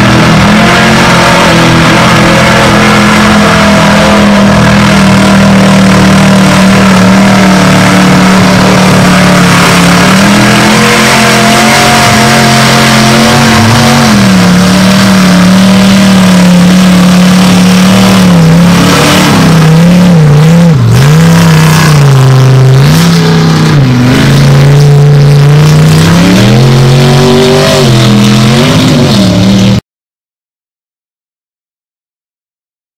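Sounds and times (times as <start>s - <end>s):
truck engine revving: 0.0s - 29.8s.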